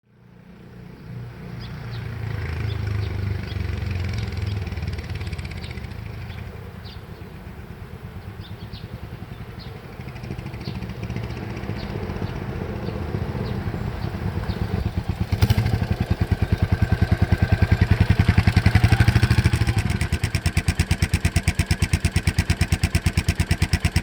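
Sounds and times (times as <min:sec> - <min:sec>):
motorcycle exhaust pulsing: 0:02.0 - 0:24.0.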